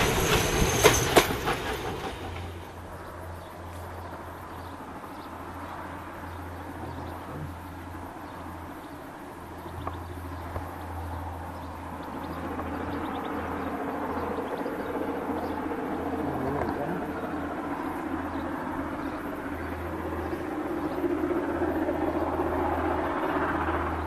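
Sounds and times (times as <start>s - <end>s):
distant train rumbling: 0.0s - 24.0s.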